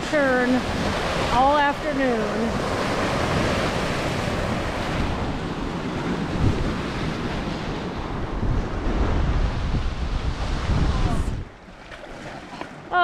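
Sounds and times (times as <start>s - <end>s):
waves breaking on rocks: 0.0s - 13.0s
wind buffeting microphone: 0.0s - 13.0s.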